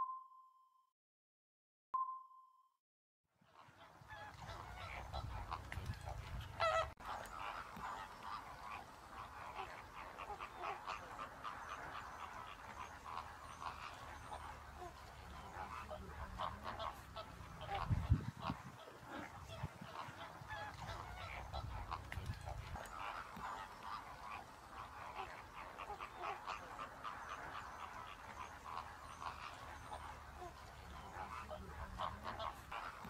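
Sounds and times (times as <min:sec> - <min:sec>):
waterbirds calling: 0:03.5 - 0:33.0.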